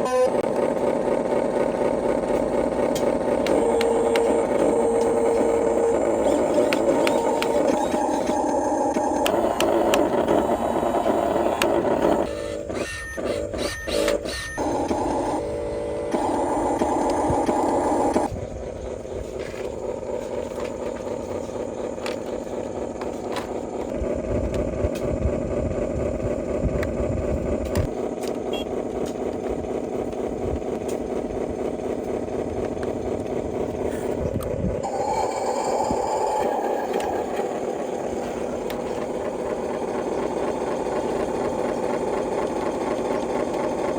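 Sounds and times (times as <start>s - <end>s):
toy vehicle motor running: 0.0s - 43.9s.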